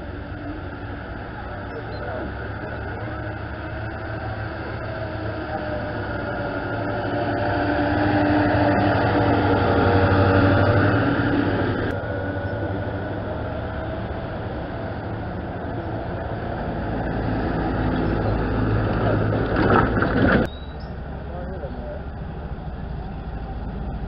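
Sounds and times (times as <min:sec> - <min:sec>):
truck engines driving past: 0:00.0 - 0:24.0.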